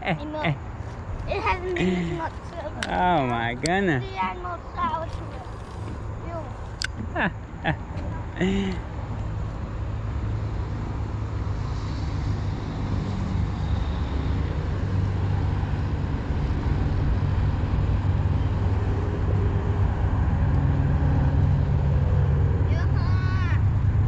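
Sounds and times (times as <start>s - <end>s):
motor vehicle engine rumble: 0.0s - 24.0s.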